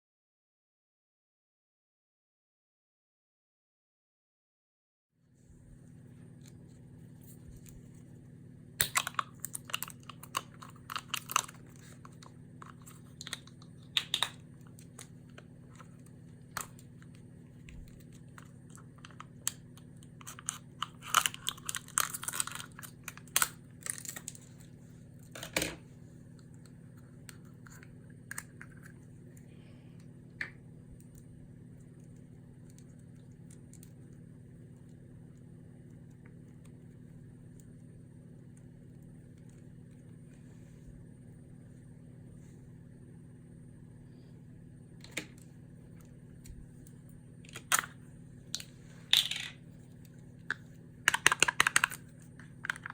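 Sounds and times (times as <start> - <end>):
steady low hum: 5.2 - 52.9.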